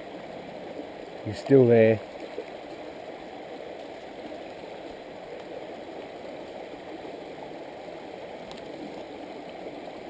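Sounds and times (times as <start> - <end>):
shallow stream running: 0.0 - 10.0.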